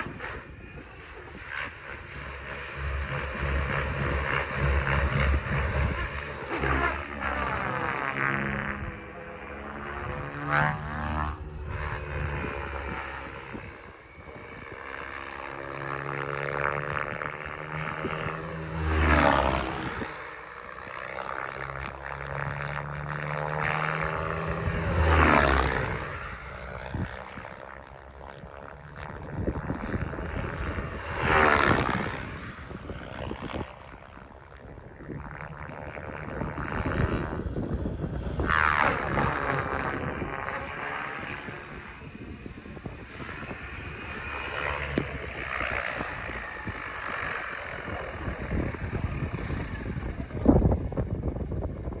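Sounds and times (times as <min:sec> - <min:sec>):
rc helicopter motor and rotor whine: 0:00.0 - 0:52.0.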